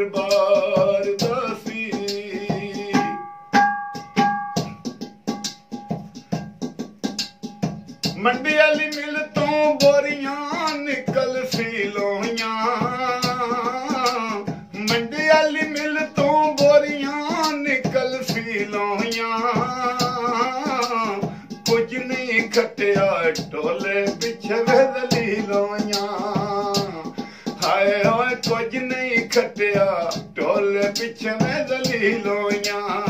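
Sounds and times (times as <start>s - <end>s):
man singing folk melody: 0.0s - 3.3s, 8.1s - 33.0s.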